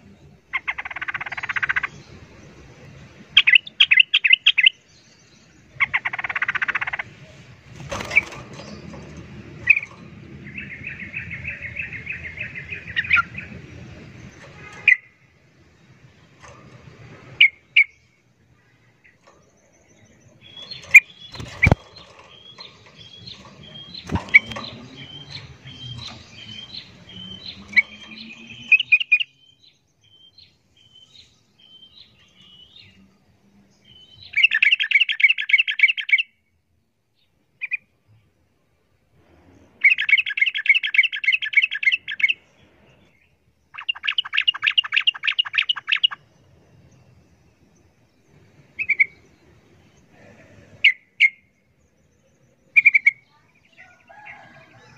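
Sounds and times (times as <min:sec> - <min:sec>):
bird chirping: 0:00.0 - 0:36.5, 0:39.5 - 0:54.9
bird chattering song: 0:00.4 - 0:02.1, 0:03.4 - 0:08.9, 0:09.6 - 0:15.2, 0:17.4 - 0:33.0, 0:33.8 - 0:36.4, 0:39.8 - 0:54.5.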